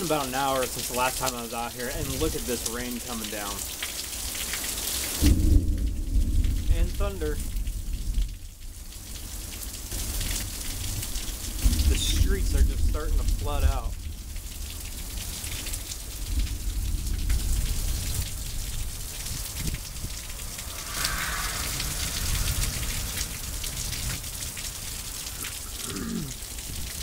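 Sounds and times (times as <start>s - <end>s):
heavy rain on pavement: 0.0s - 27.0s.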